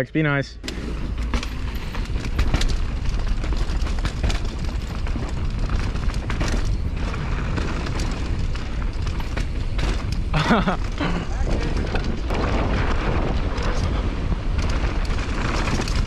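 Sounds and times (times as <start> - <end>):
bike rattling over rocks: 0.7 - 16.0
wind buffeting microphone: 0.7 - 16.0.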